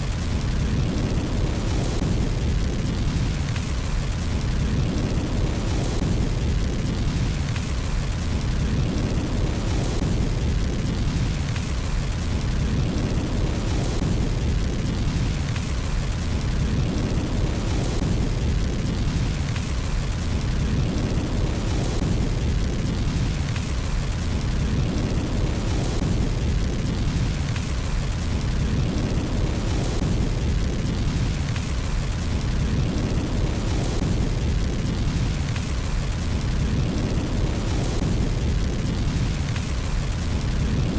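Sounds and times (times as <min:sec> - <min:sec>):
fireplace fire burning: 0:00.0 - 0:40.9.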